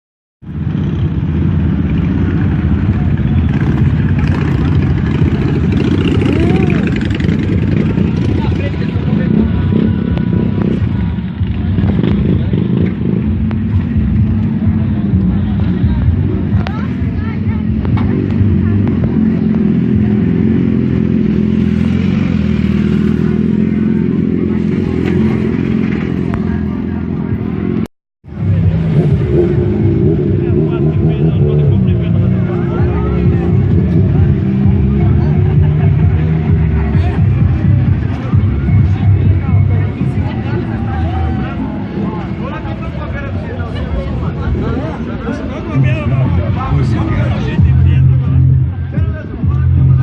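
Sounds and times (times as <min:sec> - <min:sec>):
motorcycle engine running: 0:00.4 - 0:50.0.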